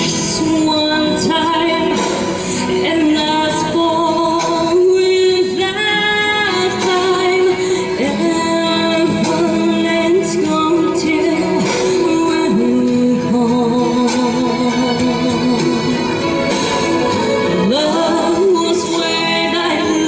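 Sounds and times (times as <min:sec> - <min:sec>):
musical accompaniment: 0:00.0 - 0:20.0
woman singing into a microphone: 0:00.0 - 0:20.0.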